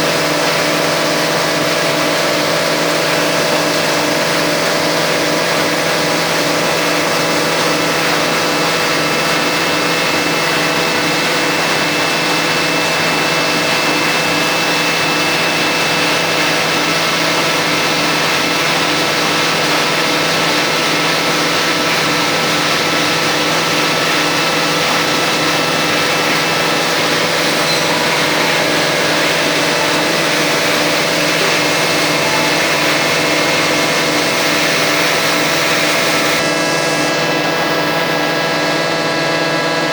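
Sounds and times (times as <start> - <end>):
factory machinery humming: 0.0 - 39.9.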